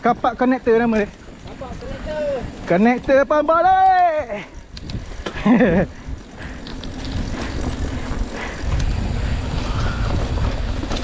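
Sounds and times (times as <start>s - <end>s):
rumble of riding off-road: 0.0s - 11.0s
wind buffeting microphone: 0.0s - 11.0s.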